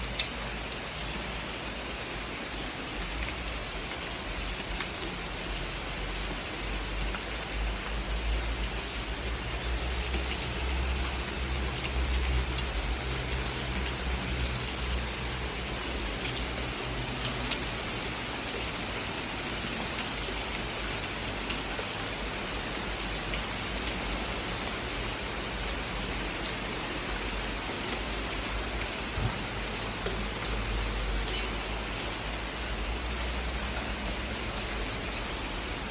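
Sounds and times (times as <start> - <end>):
rain pattering: 0.0 - 35.9.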